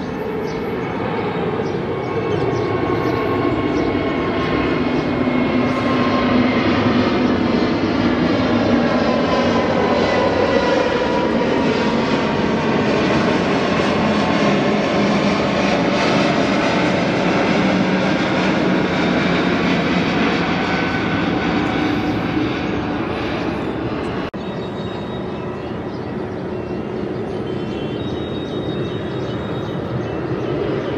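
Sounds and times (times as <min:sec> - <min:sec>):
jet engines rumble and roar: 0:00.0 - 0:30.9.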